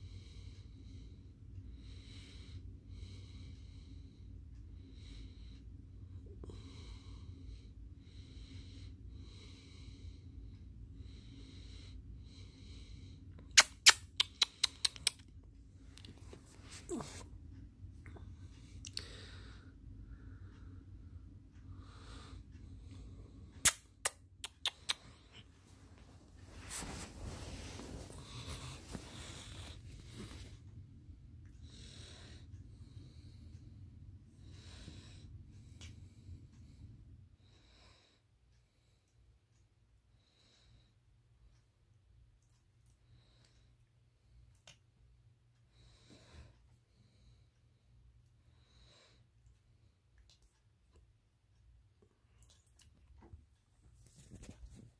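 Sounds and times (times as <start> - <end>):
close soft breathing: 0.0 - 13.5, 15.6 - 23.6, 24.6 - 41.7, 42.4 - 54.9
steady low rumble: 0.0 - 13.6, 14.5 - 54.9.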